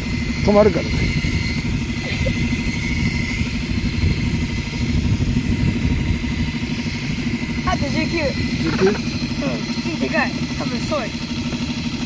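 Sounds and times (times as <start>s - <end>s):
boat engine idling: 0.0s - 12.0s
faint high whine: 0.0s - 12.0s.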